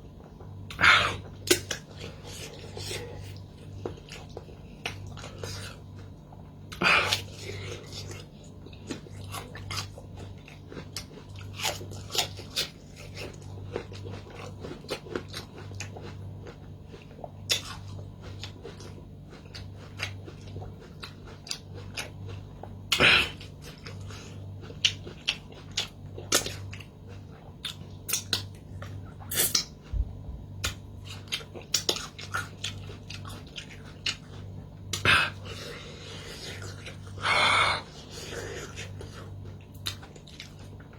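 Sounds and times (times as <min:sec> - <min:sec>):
person chewing food: 0:00.0 - 0:40.9
steady low hum: 0:00.0 - 0:40.9.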